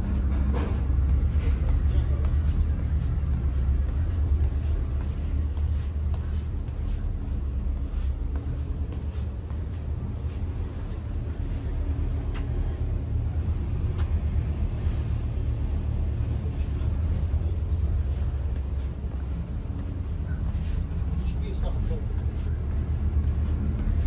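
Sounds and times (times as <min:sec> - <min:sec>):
ferry engine rumble: 0:00.0 - 0:24.0.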